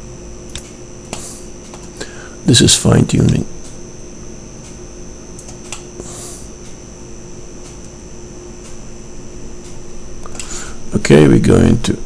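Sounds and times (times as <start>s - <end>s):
steady hum with high whine: 0.0s - 12.0s.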